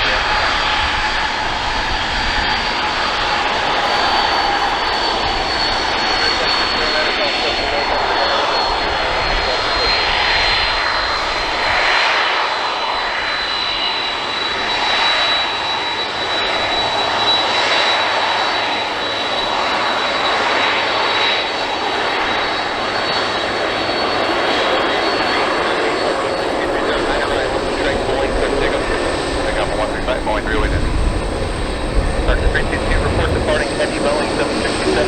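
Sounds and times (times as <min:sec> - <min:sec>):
jet engines at takeoff power: 0:00.0 - 0:35.0.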